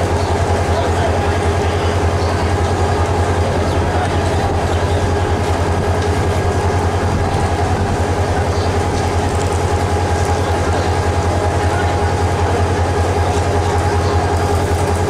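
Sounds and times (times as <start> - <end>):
constant hum: 0.0 - 15.0
train wheels rumbling on track: 0.0 - 15.0.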